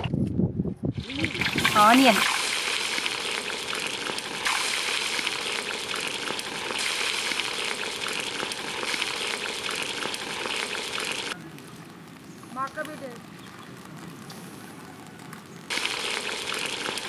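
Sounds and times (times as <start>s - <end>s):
onion sizzling in hot oil: 1.0s - 17.0s.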